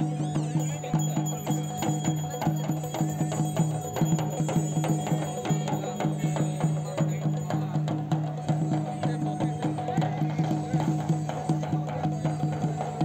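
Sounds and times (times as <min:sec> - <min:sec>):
music with quick percussion beat: 0:00.0 - 0:13.0.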